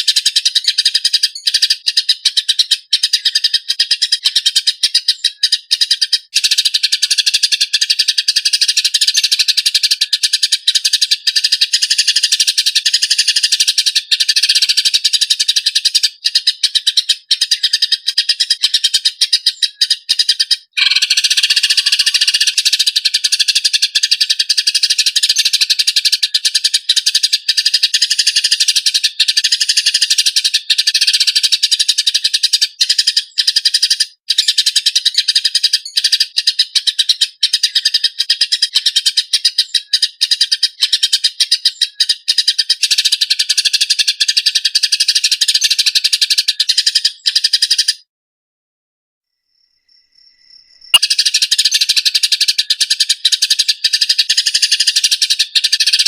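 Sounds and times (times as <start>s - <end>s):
sparrows chirping: 0.0s - 48.0s, 49.8s - 56.0s.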